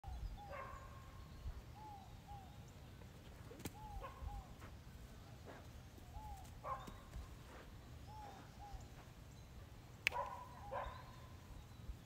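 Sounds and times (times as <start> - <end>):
faint bird calls: 0.1 - 12.0.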